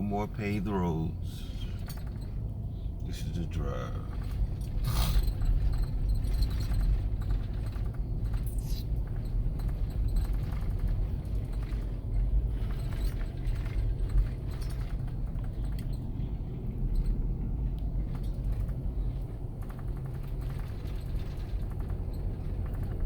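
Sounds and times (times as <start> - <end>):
car road rumble on dirt road: 0.0 - 23.0
light rattles and knocks: 0.0 - 23.0.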